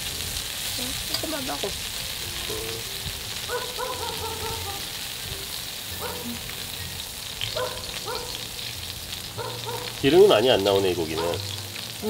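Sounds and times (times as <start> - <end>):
pork sizzling on griddle pan: 0.0 - 12.0.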